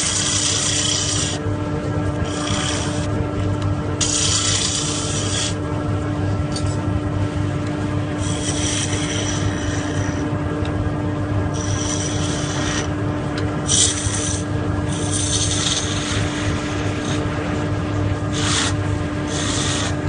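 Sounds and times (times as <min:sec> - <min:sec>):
tool scraping spinning wood: 0:00.0 - 0:06.9, 0:07.8 - 0:10.6, 0:11.4 - 0:20.0
lathe motor humming: 0:00.0 - 0:20.0.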